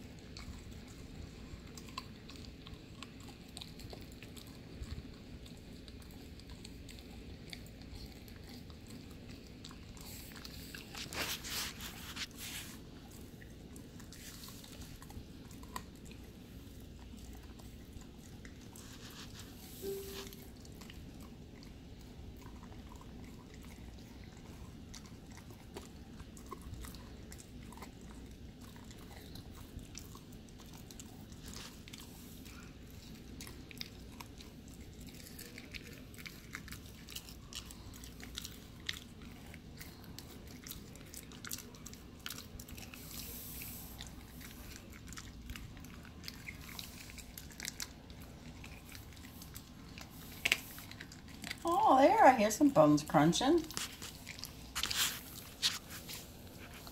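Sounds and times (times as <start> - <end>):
puppy chewing crunching bones: 0.0 - 56.9.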